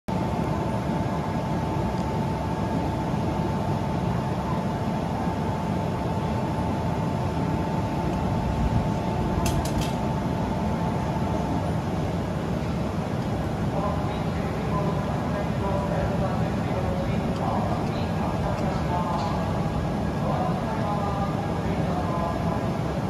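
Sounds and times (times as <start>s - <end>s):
train hum and low rumble: 0.1s - 23.0s.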